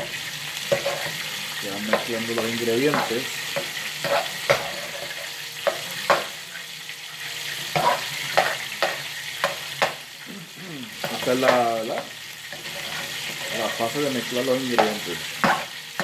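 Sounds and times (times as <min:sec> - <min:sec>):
metal spoon scraping pan: 0:00.0 - 0:06.2, 0:07.7 - 0:09.6, 0:11.0 - 0:16.0
rice sizzling in a pan: 0:00.0 - 0:16.0.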